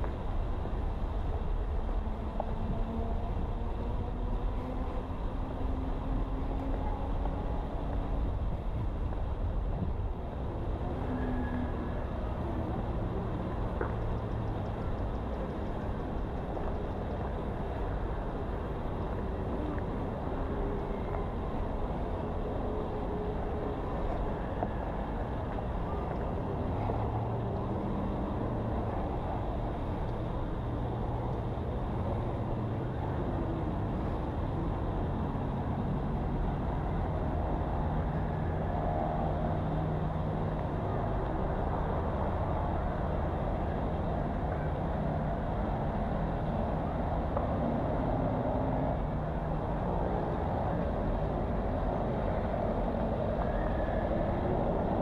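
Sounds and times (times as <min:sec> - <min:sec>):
street traffic noise: 0:00.0 - 0:55.0
vehicle engines passing: 0:00.0 - 0:55.0.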